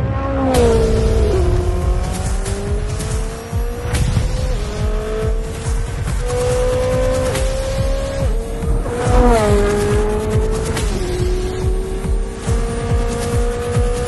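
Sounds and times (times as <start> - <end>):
car engine accelerating hard: 0.0 - 14.0
background music: 0.1 - 14.0.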